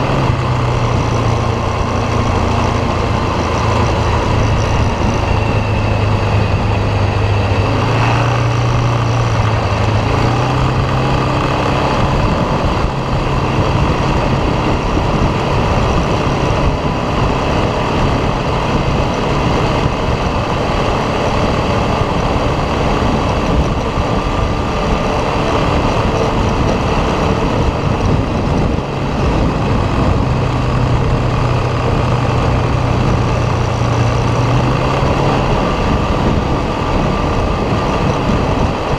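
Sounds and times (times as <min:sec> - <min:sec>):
atv engine running: 0:00.0 - 0:38.9
steady rushing noise: 0:00.0 - 0:38.9.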